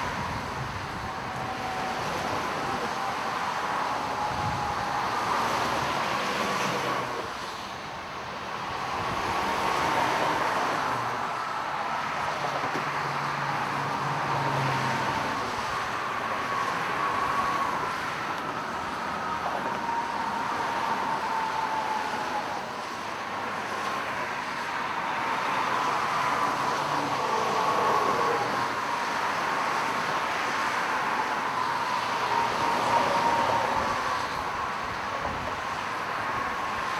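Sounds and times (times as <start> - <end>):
freeway traffic: 0.0 - 36.9.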